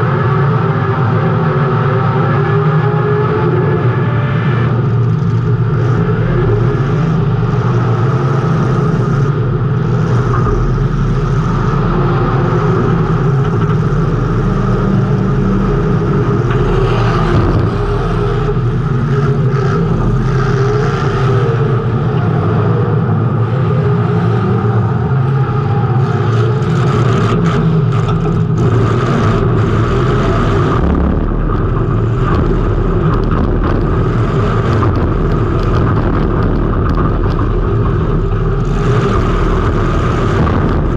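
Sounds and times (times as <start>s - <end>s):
race car engine rumbling: 0.0s - 40.9s
road noise: 0.0s - 40.9s
wind noise: 0.0s - 40.9s.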